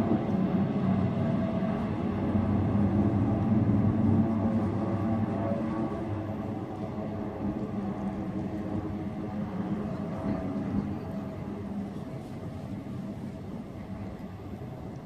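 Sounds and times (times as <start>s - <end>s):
propeller plane droning: 0.0s - 15.0s.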